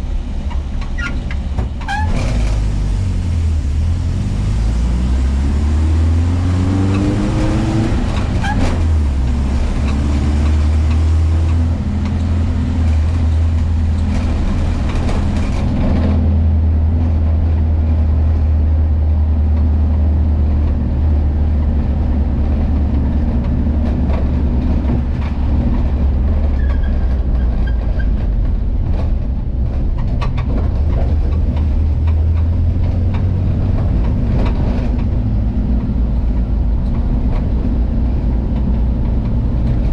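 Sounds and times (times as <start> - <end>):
van engine accelerating and cruising: 0.0 - 39.9.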